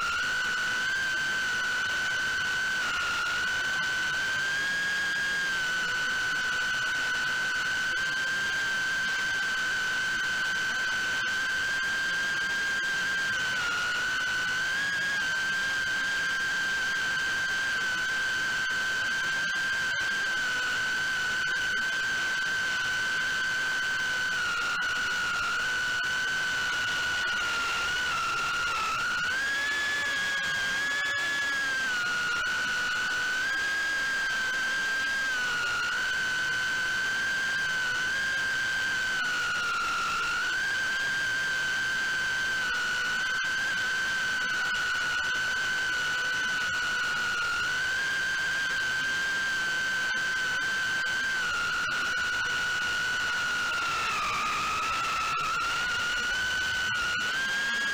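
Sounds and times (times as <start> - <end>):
quadcopter motors whining: 0.0 - 57.9.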